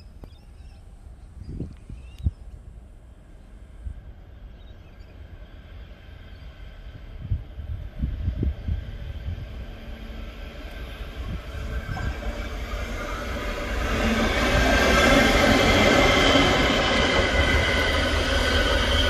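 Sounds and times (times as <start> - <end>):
locomotive engine rumble: 0.8 - 19.0.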